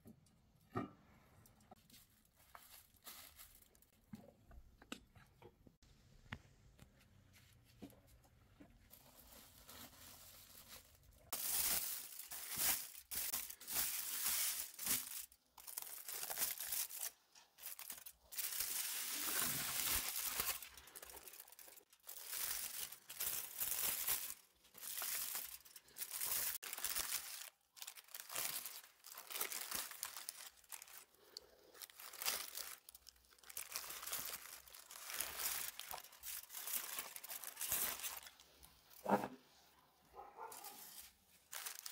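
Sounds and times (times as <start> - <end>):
foil and paper crinkling: 1.8 - 3.9, 8.9 - 38.8, 40.4 - 41.9.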